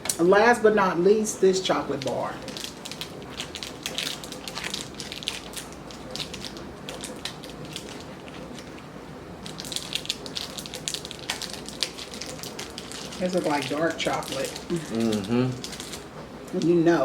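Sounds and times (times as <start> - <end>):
wrapper crinkling: 1.9 - 8.8, 9.4 - 16.7.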